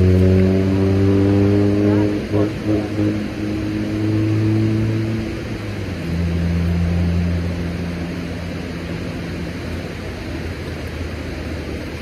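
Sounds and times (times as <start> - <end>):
low-pitched machine hum: 0.0 - 12.0.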